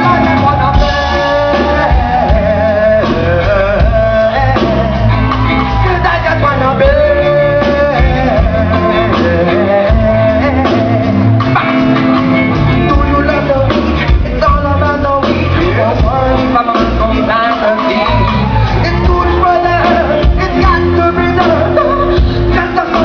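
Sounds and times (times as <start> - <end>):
bass guitar: 0.0 - 23.0
drums: 0.0 - 23.0
electric guitar: 0.0 - 23.0
person singing: 0.0 - 23.0.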